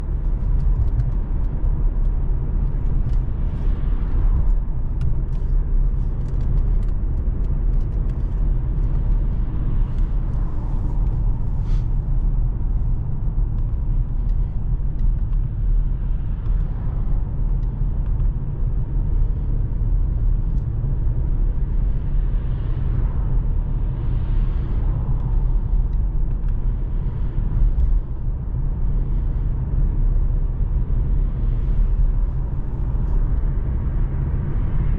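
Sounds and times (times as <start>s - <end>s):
car engine low rumble: 0.0s - 34.9s.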